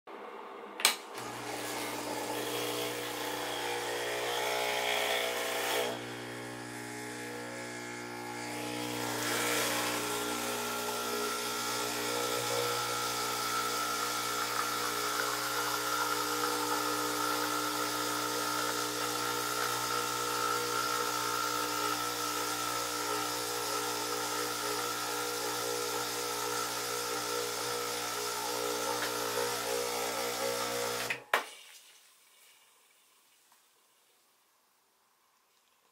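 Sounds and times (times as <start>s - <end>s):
espresso machine pump humming: 1.2s - 31.2s.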